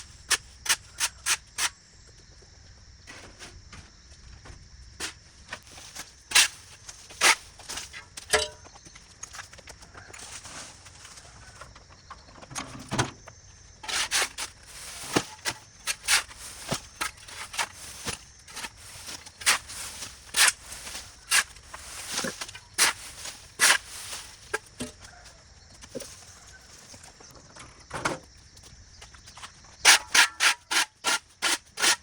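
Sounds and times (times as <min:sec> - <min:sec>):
sharp knocks and crunches: 0:03.0 - 0:32.0.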